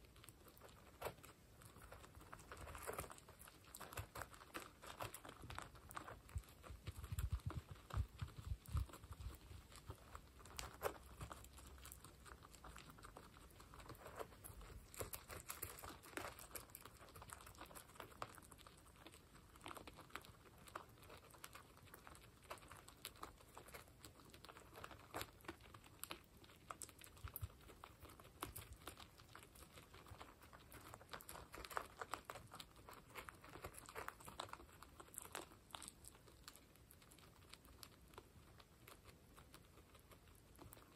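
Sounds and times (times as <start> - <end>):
guinea pigs crunching pellets: 0.0 - 40.9.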